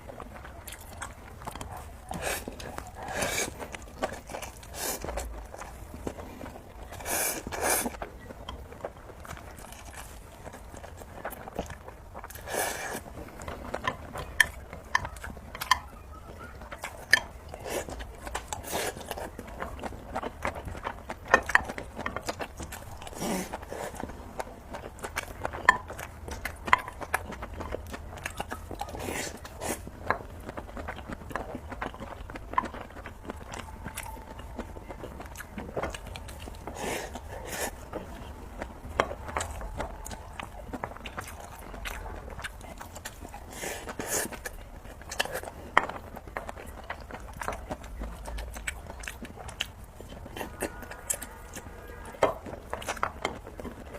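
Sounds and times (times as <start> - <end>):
person chewing noodles: 0.0 - 53.9.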